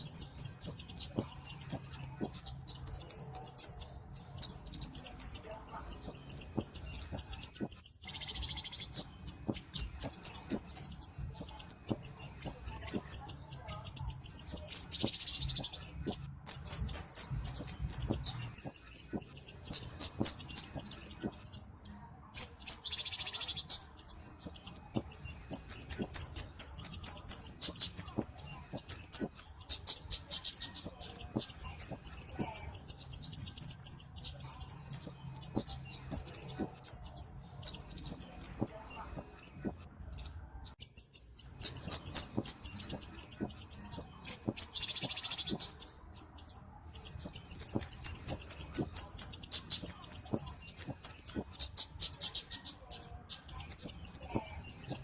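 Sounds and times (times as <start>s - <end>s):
bird singing high ticking notes: 0.0s - 55.0s.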